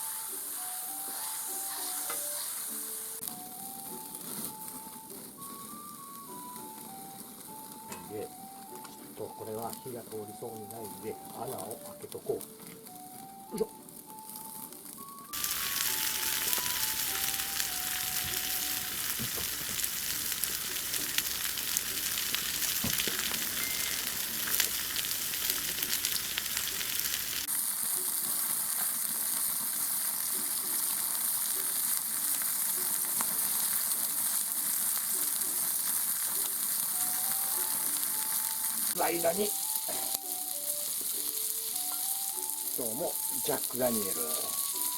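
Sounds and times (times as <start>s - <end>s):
chicken sizzling over campfire: 0.0s - 44.9s.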